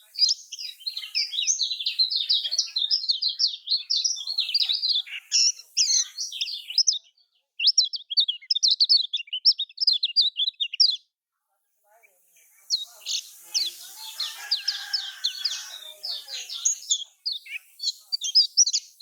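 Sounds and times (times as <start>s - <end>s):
bird singing high twittering song: 0.0s - 11.2s, 12.6s - 19.0s.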